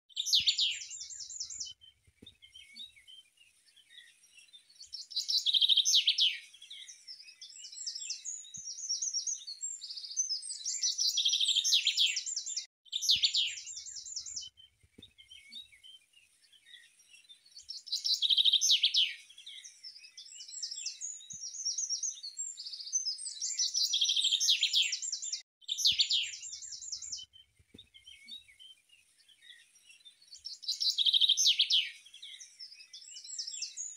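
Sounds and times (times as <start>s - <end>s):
songbird chirping and trilling: 0.1s - 33.9s.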